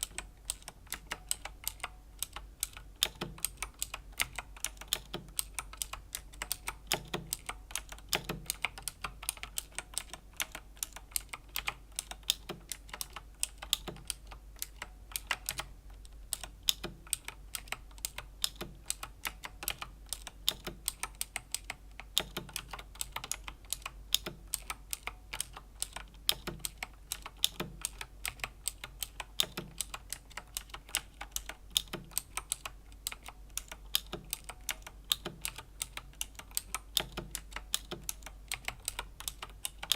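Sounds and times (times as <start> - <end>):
mechanical keyboard key clicks: 0.0 - 15.7, 16.3 - 39.9.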